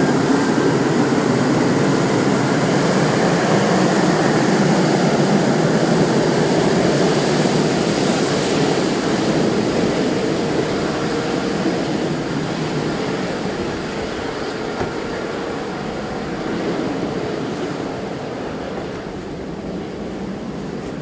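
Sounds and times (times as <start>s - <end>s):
faint high engine whine: 0.0s - 21.0s
jet engines rushing hum: 0.0s - 21.0s.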